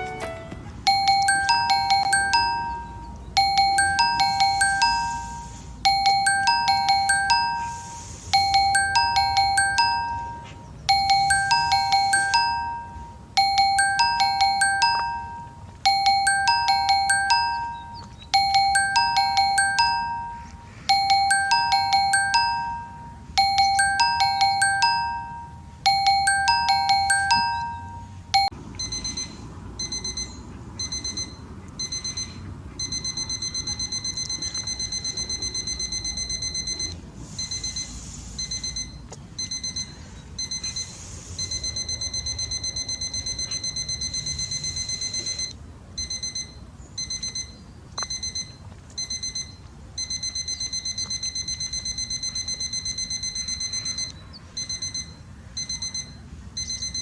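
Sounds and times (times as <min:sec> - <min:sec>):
alarm clock beeping: 0:00.0 - 0:57.0.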